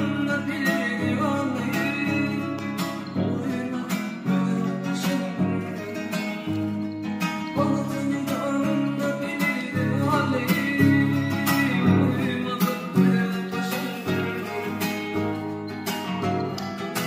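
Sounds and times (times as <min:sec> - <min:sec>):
acoustic guitar song: 0:00.0 - 0:17.0.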